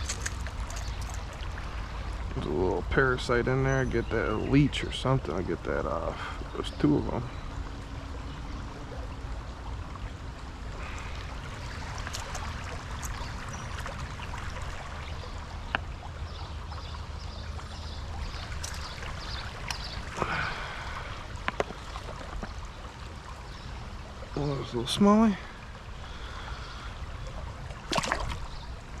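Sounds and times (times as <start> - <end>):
creek water running: 0.0 - 29.0.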